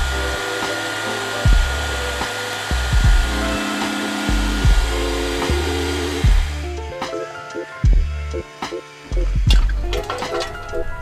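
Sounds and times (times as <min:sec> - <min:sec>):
music with beat and bass: 0:01.4 - 0:11.0.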